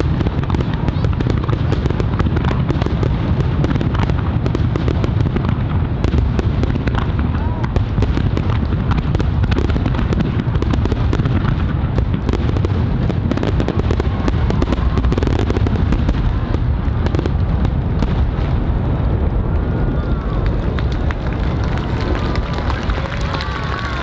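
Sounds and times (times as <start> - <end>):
fireworks booming: 0.0 - 24.0
fireworks crackling bangs: 0.0 - 24.0.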